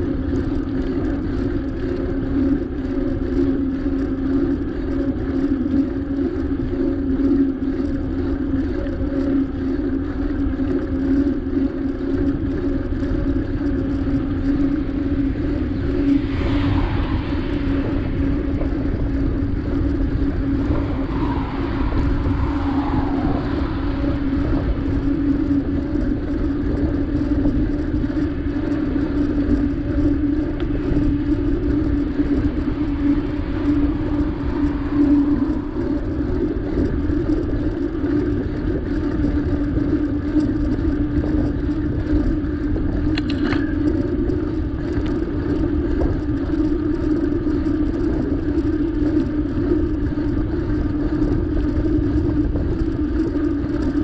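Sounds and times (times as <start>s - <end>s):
bicycle tyre noise: 0.0s - 54.0s
constant low hum: 0.0s - 54.0s
wind buffeting: 0.0s - 54.0s.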